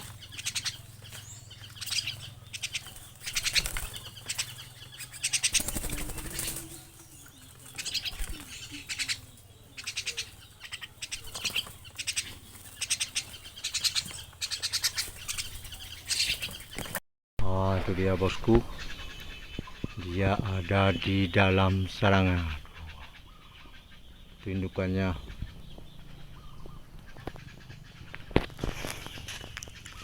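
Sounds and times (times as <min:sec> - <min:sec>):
small birds trilling: 0:00.0 - 0:30.0.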